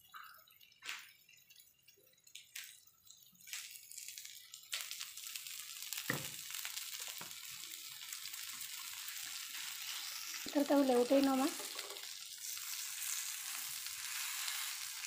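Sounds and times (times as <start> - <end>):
oil sizzling on hot pan: 0.0 - 15.0.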